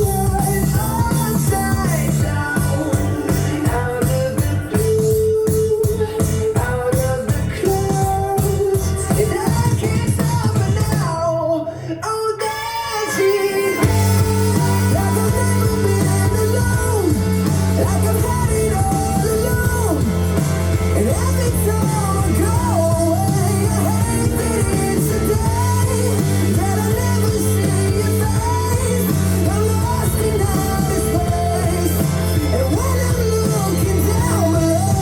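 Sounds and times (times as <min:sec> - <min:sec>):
pop-rock song from vinyl record: 0:00.0 - 0:35.0.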